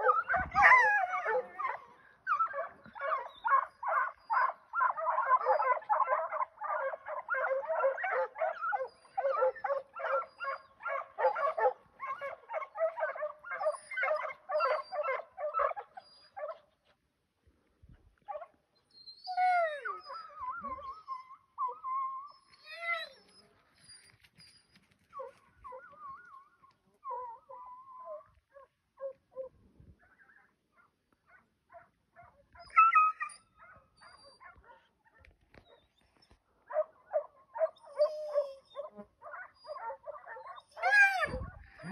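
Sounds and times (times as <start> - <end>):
hounds baying: 0.0 - 16.9, 19.2 - 41.9.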